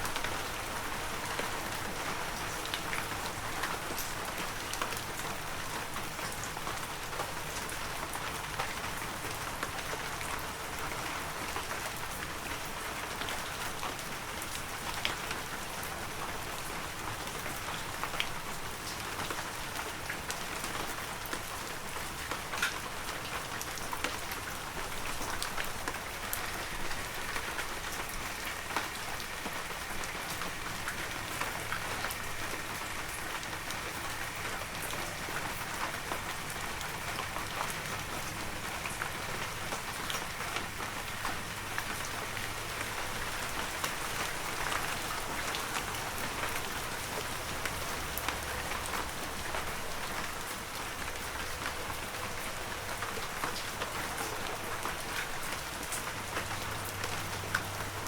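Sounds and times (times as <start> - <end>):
raindrops pattering on surfaces: 0.0 - 58.0.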